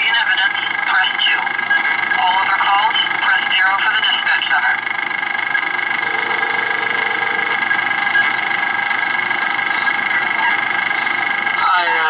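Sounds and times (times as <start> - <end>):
vehicle idling hum: 0.0 - 12.0.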